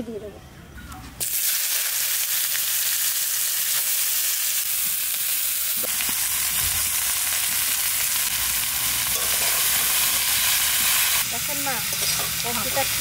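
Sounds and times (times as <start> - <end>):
cabbage sizzling in hot oil: 1.2 - 13.0.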